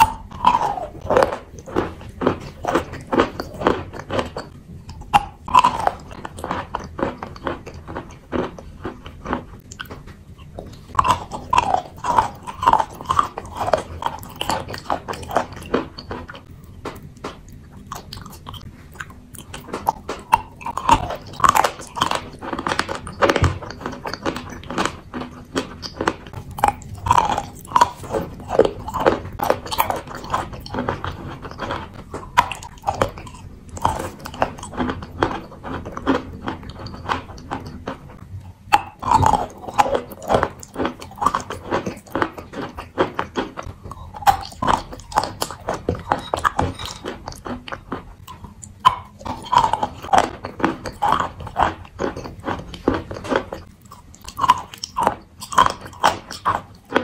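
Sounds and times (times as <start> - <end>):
person chewing crunchy chalk: 0.0 - 57.0.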